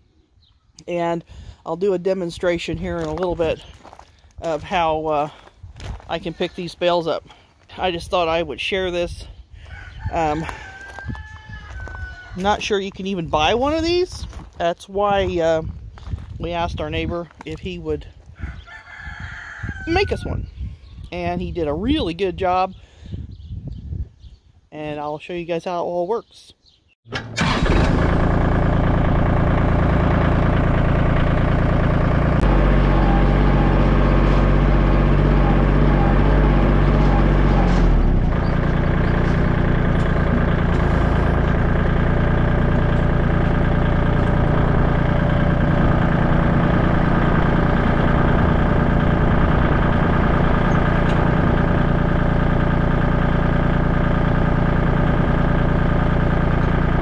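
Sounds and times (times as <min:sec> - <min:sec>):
tractor diesel engine running: 0:00.8 - 0:22.8, 0:27.1 - 0:57.0.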